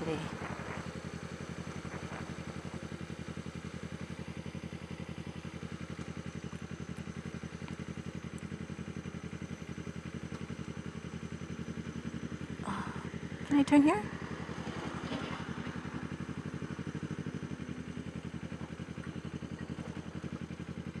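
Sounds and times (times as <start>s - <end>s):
motorcycle engine running at low revs: 0.0s - 21.0s.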